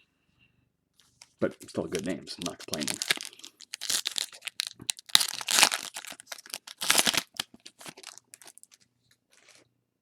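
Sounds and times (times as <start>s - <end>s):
plastic wrapper crinkling and tearing: 1.6s - 9.6s.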